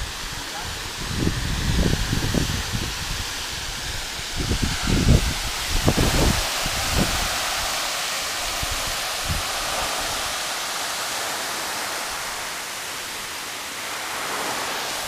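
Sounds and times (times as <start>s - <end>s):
waterfall crashing: 0.0s - 15.0s.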